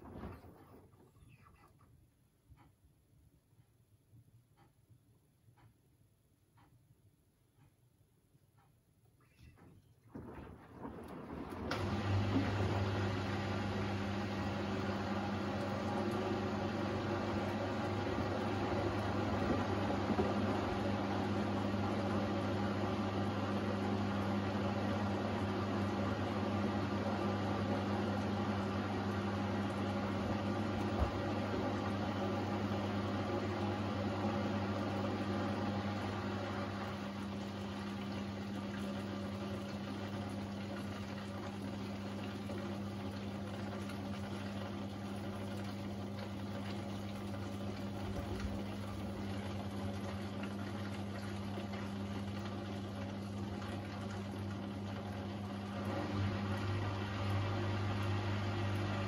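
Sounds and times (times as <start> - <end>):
water sloshing in washing machine: 0.0 - 2.0, 9.2 - 59.0
low machine hum: 9.2 - 59.0.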